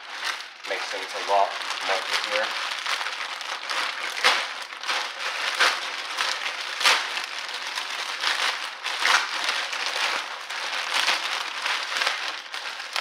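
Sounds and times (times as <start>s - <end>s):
packaging crackles: 0.0s - 13.0s
packaging rustling: 0.0s - 13.0s.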